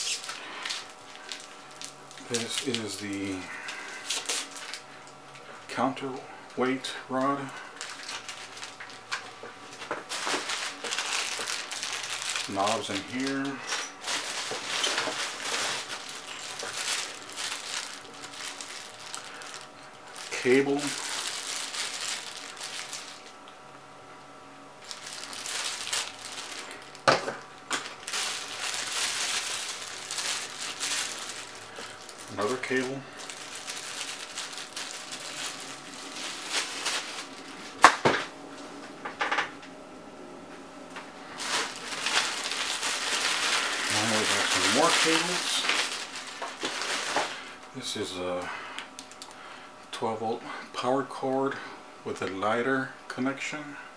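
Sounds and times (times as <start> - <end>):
plastic bags crinkling: 0.0 - 6.0, 6.6 - 23.5, 24.8 - 38.3, 41.2 - 47.8, 48.8 - 49.4
plastic wrapping rustling: 0.0 - 23.5, 24.8 - 38.7, 41.2 - 47.9, 48.8 - 49.4.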